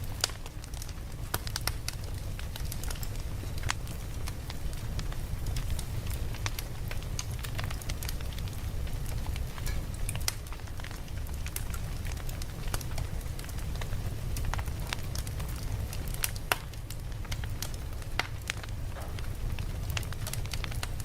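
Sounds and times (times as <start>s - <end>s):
flames low rumble: 0.0s - 21.0s
campfire pops and snaps: 0.2s - 21.0s.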